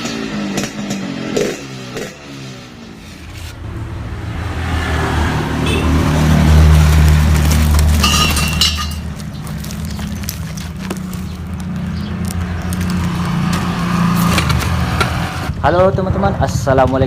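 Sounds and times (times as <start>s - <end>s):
motorcycle engine running: 0.0s - 3.2s, 5.6s - 17.0s.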